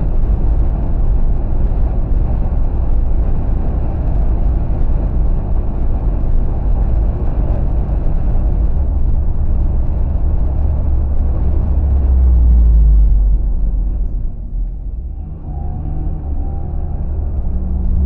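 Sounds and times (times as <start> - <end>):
car driving rumble: 0.0 - 18.0.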